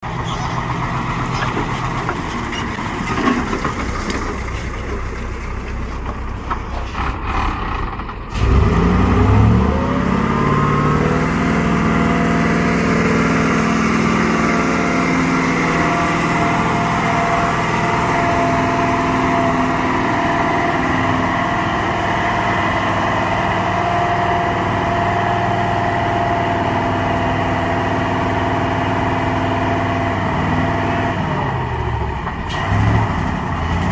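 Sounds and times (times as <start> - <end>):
quiet vehicle engine: 0.0 - 33.9
truck diesel engine revving: 0.0 - 33.9.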